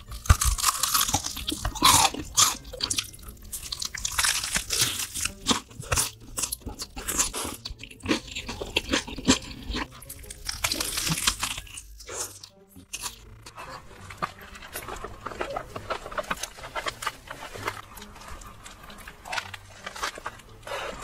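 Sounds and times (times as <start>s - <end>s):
crunching and chewing food: 0.0s - 21.0s.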